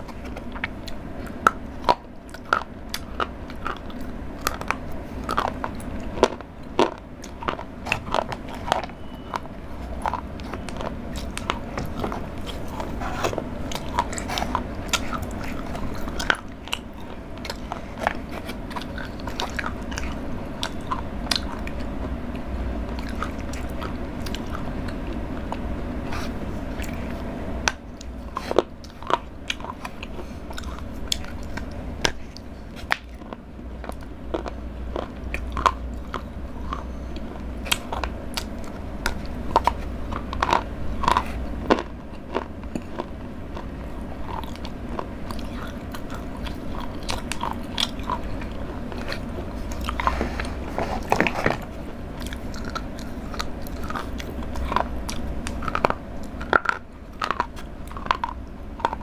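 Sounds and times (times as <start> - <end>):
chocolate crunching: 0.0 - 59.0
steady low hum: 0.0 - 59.0.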